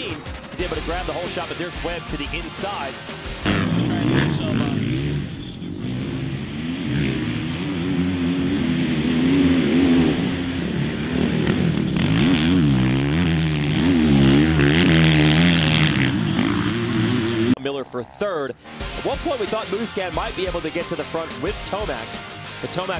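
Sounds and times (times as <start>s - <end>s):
motocross bikes revving: 0.0s - 22.9s.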